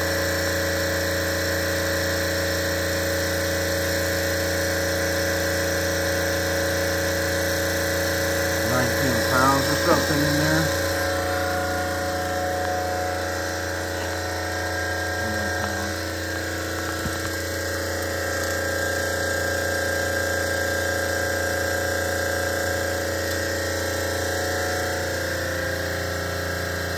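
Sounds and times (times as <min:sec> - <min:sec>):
refrigeration compressor humming: 0:00.0 - 0:26.9.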